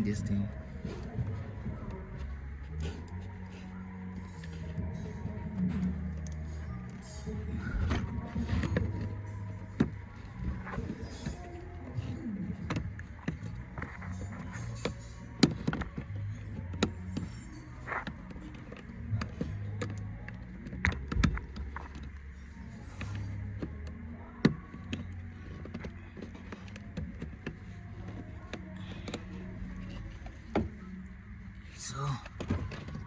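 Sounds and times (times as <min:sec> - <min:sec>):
clicks and knocks on car parts: 0:00.0 - 0:33.0.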